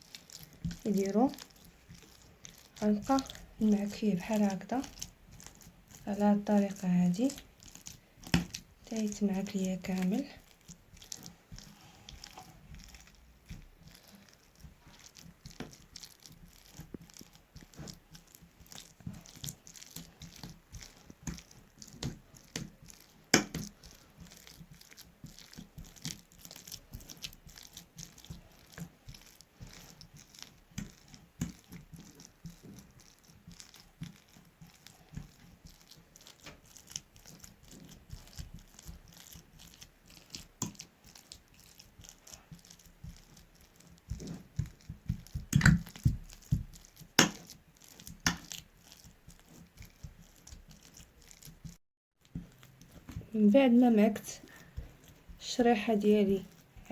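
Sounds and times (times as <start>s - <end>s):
hands mashing figs into paste: 0.0s - 56.9s.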